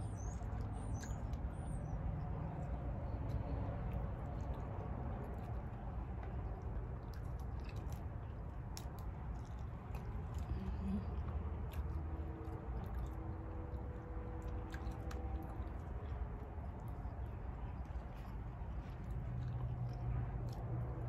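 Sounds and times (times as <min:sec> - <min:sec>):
person chewing food: 0:00.0 - 0:21.0
steady low hum: 0:00.0 - 0:21.0.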